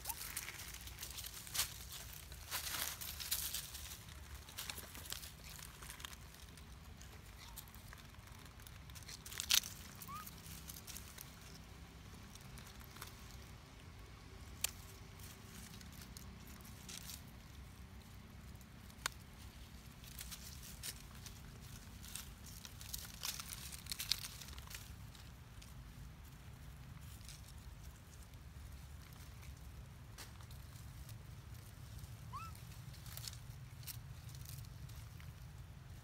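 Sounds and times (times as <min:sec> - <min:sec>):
dry leaf litter rustling: 0:00.0 - 0:13.5, 0:14.4 - 0:36.0
low background rumble: 0:00.0 - 0:36.0.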